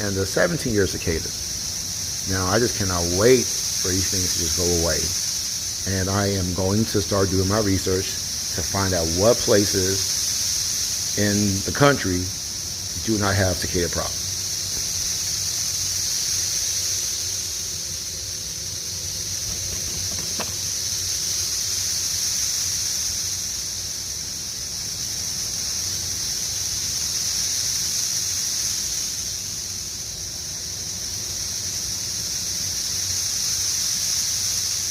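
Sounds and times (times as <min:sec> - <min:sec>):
cicadas shrill drone: 0:00.0 - 0:34.9.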